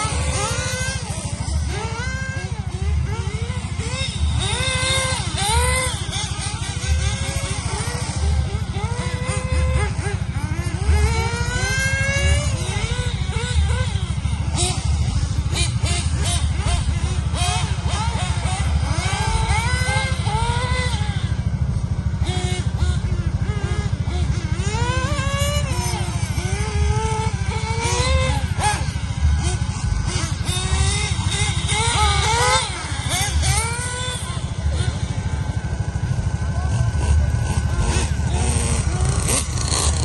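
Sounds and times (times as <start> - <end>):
small model car engines revving: 0.0 - 40.0.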